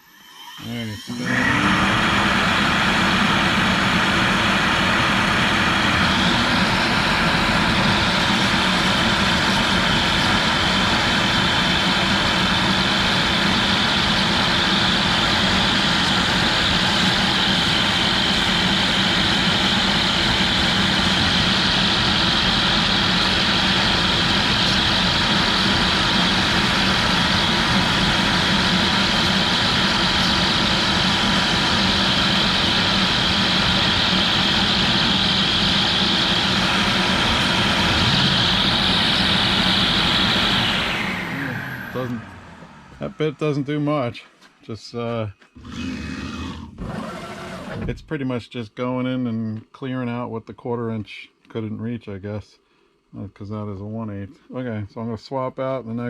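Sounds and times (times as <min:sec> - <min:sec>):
router spindle whining: 0:00.0 - 0:44.5, 0:45.4 - 0:48.0.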